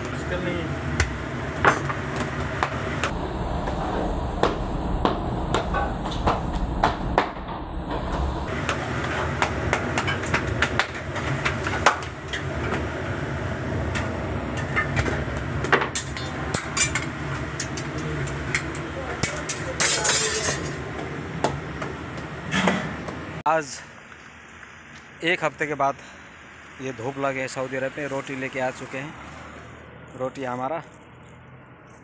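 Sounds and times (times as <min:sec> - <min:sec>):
gas flame rumbling: 0:00.0 - 0:30.2.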